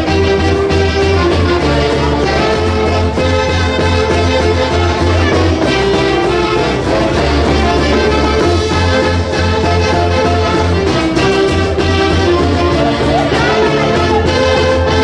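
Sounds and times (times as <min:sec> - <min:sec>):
horns playing melody: 0:00.0 - 0:15.0.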